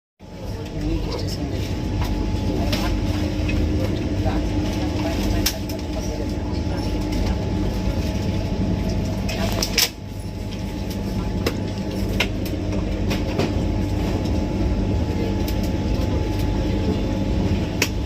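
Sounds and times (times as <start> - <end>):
train rumbling: 0.3 - 18.0.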